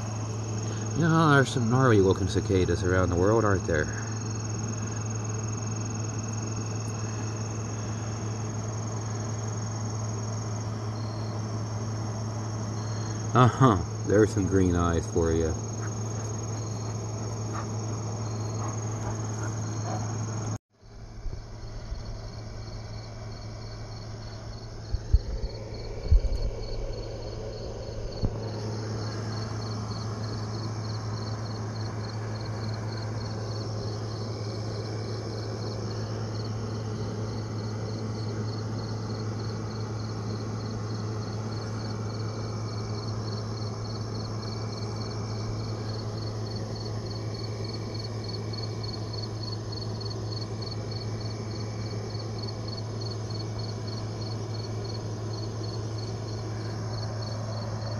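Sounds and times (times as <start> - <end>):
crickets chirping: 0.0 - 57.9
insect trill: 0.0 - 57.9
steady low hum: 0.0 - 57.9.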